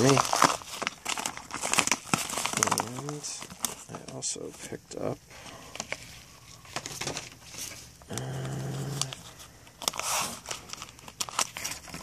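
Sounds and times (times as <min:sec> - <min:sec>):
plastic packaging crinkling: 0:00.0 - 0:12.0
steady low hum: 0:02.0 - 0:12.0.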